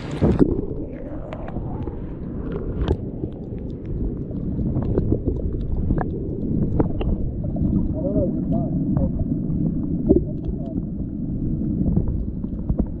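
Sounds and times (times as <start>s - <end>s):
underwater clicks and ticks: 0.0s - 13.0s
underwater water rumble: 0.0s - 13.0s.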